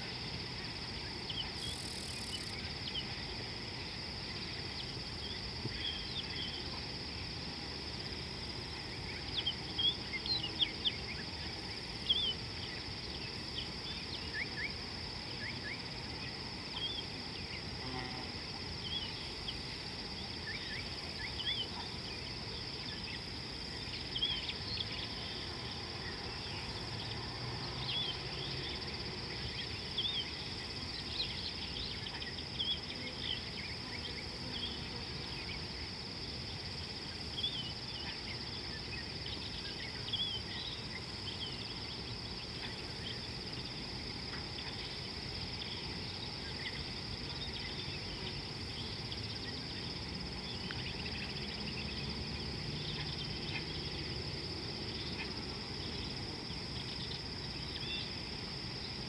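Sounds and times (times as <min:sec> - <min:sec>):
short insect chirps: 0:00.0 - 0:59.0.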